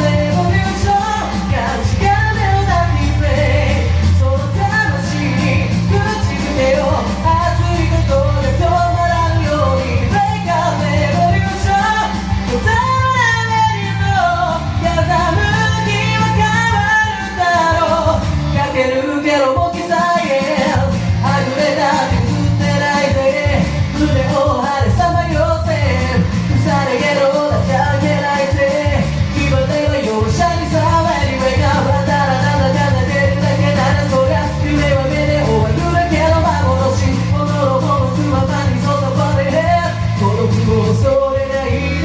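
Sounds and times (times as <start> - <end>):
person singing: 0.0 - 42.0
rock band with heavy bass: 0.0 - 42.0.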